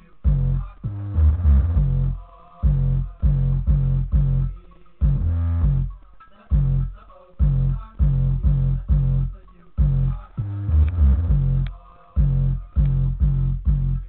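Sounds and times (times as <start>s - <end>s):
music through car speakers: 0.0s - 14.0s
strong bass notes: 0.2s - 14.0s.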